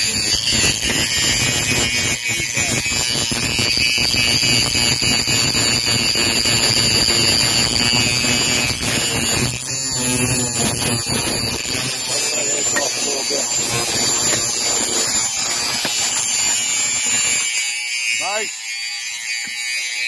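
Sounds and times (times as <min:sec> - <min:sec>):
power grinder whining: 0:00.0 - 0:20.0.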